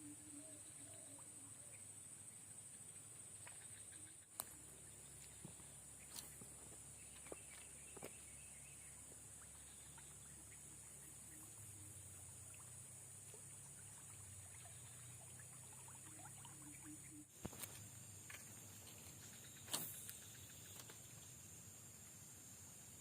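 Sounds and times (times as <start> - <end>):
steady high-pitched hiss: 0.0 - 23.0.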